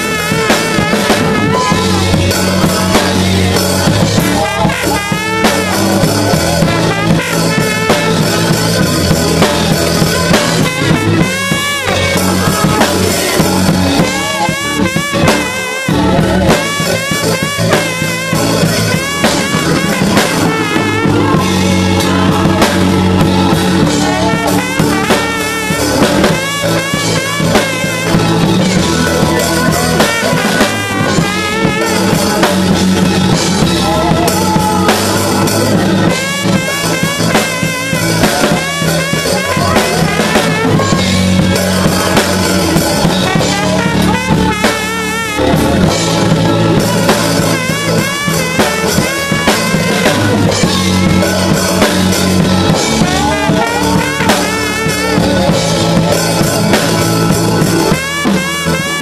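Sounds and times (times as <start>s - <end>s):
drum kit: 0.0s - 59.0s
praise team singing: 0.0s - 59.0s
trombone playing: 0.0s - 59.0s.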